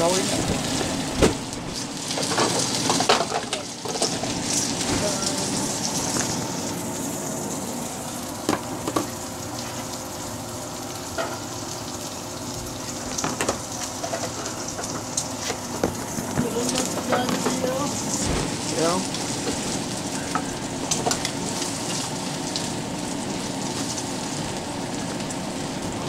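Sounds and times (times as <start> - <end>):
pork chops sizzling in pan: 0.0 - 26.0.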